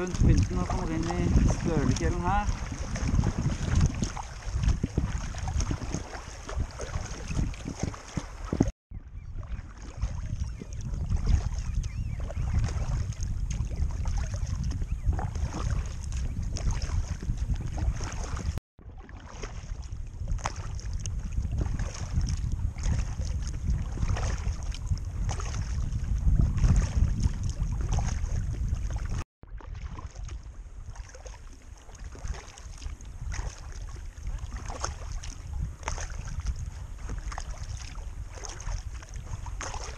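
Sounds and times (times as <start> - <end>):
water lapping against hull: 0.0 - 39.9
wind rumbling on microphone: 0.0 - 39.9.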